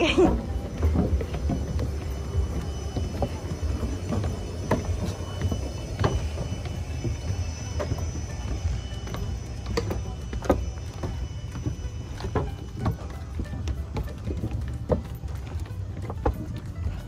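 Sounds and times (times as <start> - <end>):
footsteps on wooden boardwalk: 0.0 - 17.0
steady low rumble: 0.0 - 17.0.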